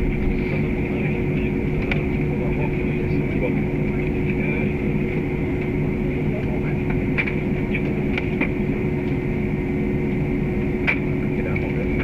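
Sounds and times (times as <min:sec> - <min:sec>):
jet engines idling rumble: 0:00.0 - 0:12.0
steady cabin hum: 0:00.0 - 0:12.0.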